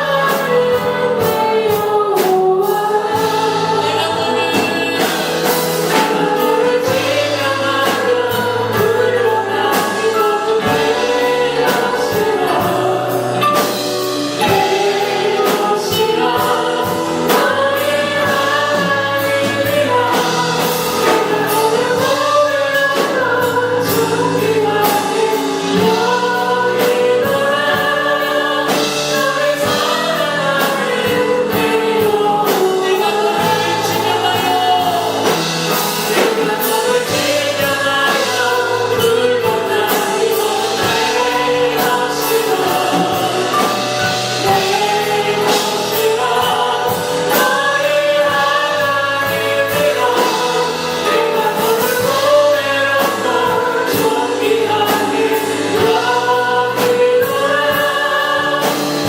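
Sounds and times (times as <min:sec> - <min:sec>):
band accompaniment: 0:00.0 - 0:59.0
congregation singing: 0:00.0 - 0:59.0.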